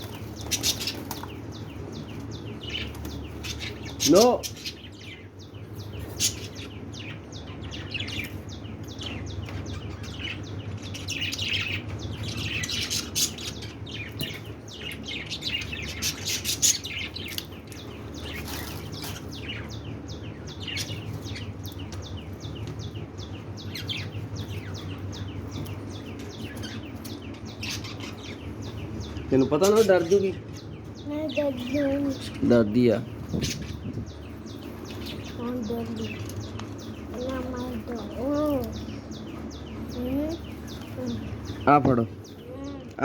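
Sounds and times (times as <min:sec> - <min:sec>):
birds chirping rapidly: 0:00.0 - 0:43.0.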